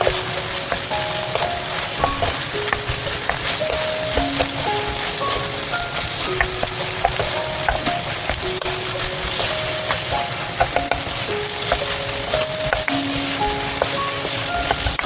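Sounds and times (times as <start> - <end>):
utensil clicking against pan: 0.0 - 15.0
vegetables sizzling in a pan: 0.0 - 15.0.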